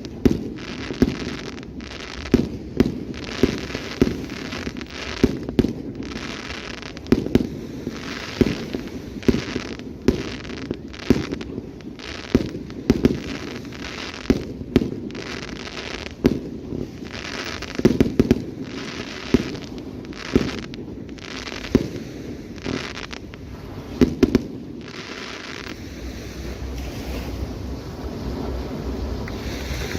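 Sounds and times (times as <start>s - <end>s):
fireworks crackling and fizzing: 0.0s - 29.9s.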